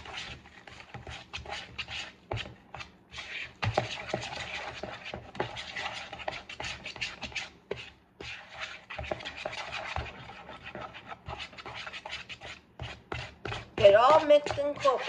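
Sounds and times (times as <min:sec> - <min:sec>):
batter stirred in mixing bowl: 0:00.0 - 0:15.0.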